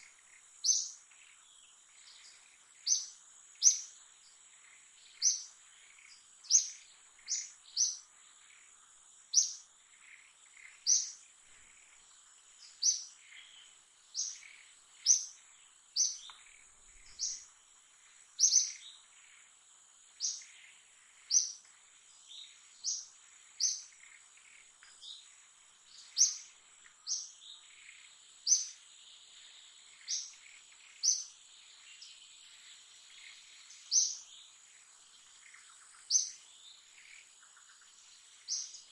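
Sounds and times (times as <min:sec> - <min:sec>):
bird chirping: 0:00.0 - 0:38.9
steady high-pitched whine: 0:00.0 - 0:38.9.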